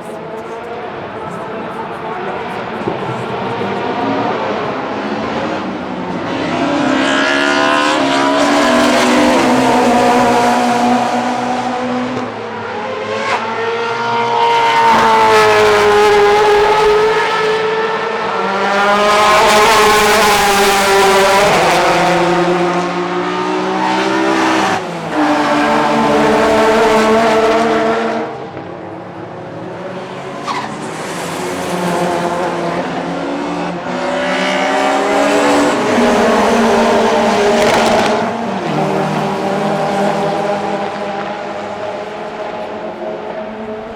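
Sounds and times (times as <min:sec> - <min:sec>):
racing cars passing by: 0:00.0 - 0:43.9.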